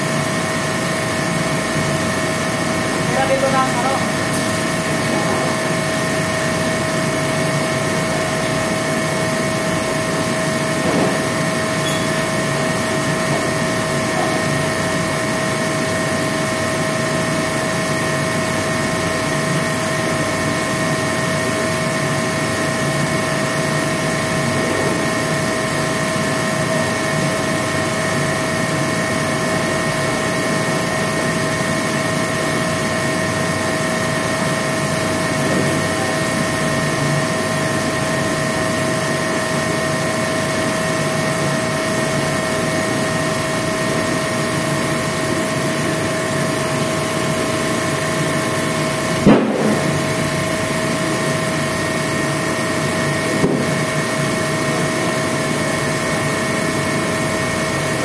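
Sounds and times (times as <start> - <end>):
machine humming and whining: 0.0 - 58.0.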